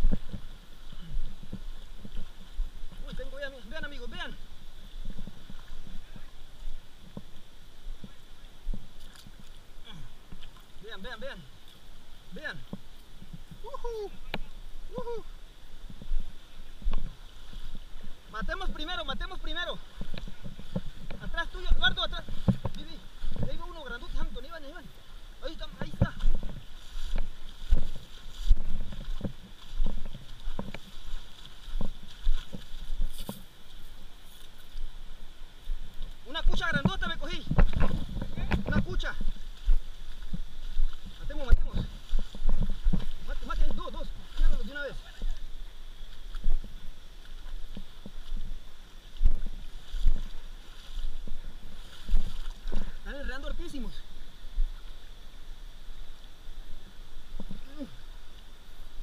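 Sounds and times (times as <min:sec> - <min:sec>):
water splashing from wading: 0:00.0 - 0:59.0.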